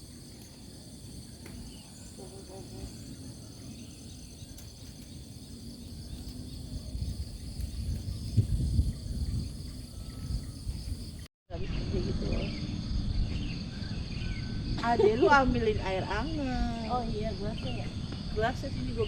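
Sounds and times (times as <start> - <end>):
crickets and night insects trilling: 0.0 - 19.0.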